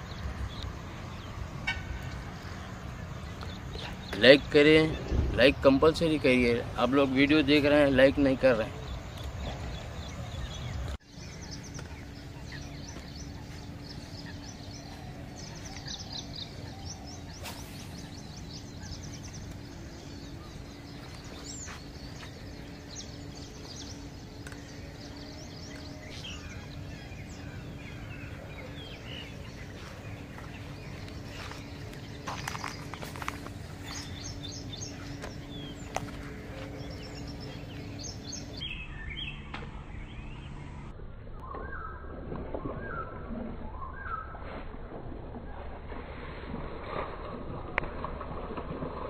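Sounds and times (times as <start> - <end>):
small birds chirping: 0.0 - 42.0
faint constant hum: 0.0 - 49.0.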